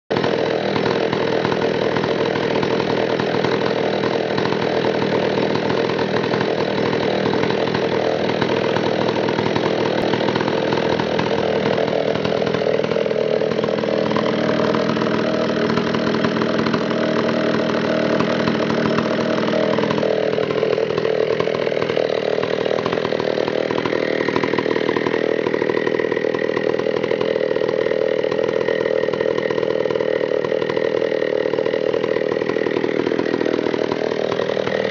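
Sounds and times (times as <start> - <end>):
chainsaw cutting log: 0.1 - 34.9.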